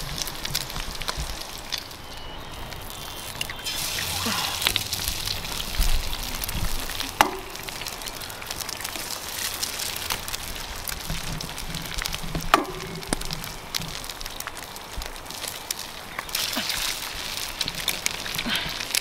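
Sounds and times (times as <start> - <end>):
campfire crackling: 0.0 - 19.0
sausages sizzling: 0.0 - 19.0
sharp cracks: 2.7 - 19.0.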